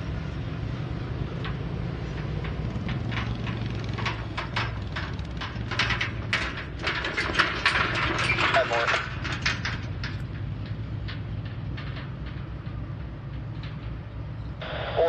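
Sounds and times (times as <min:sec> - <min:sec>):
diesel engine rumble: 0:00.0 - 0:15.0
trailer rattling and clattering: 0:00.0 - 0:15.0.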